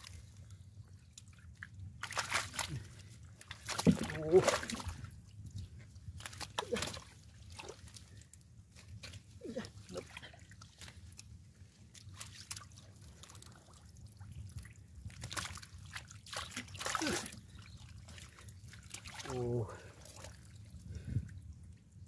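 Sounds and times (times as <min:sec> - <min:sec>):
hands squelching through mud: 0:01.1 - 0:05.1, 0:06.0 - 0:20.5.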